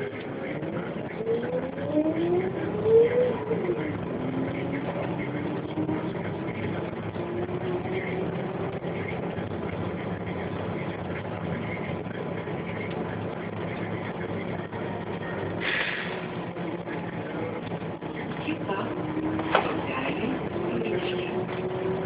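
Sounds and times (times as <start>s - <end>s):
bus engine hum: 0.0s - 22.0s
drivetrain whine: 0.0s - 22.0s.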